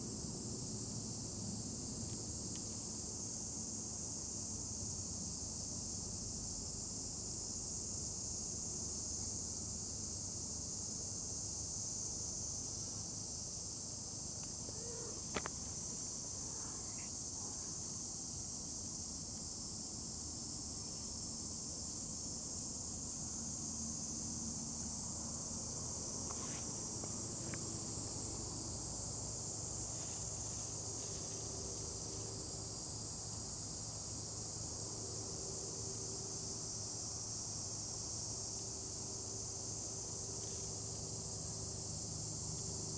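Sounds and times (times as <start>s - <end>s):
insect chorus drone: 0.0s - 42.9s.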